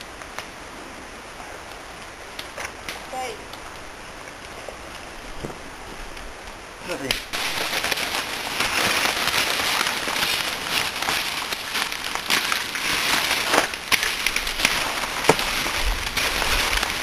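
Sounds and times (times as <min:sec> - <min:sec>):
dry leaves and twigs crackling: 0:01.4 - 0:17.0.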